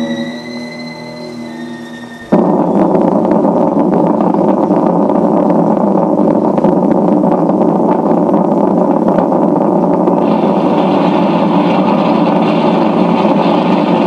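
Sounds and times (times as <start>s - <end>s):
crackling and rattling: 0.0s - 14.0s
earthquake rumble: 2.2s - 14.0s.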